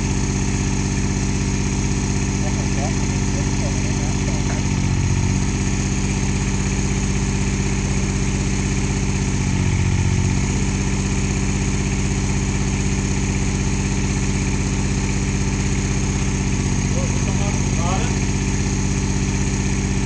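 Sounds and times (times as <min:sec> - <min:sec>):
crane engine running: 0:00.0 - 0:20.0.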